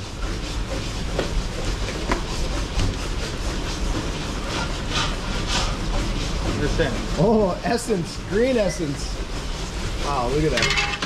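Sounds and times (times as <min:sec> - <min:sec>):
furnace rumble and hiss: 0:00.0 - 0:11.0.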